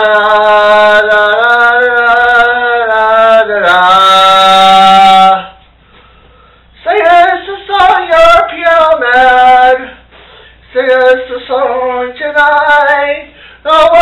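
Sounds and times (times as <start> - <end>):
man singing unaccompanied: 0.0 - 5.6, 6.8 - 14.0.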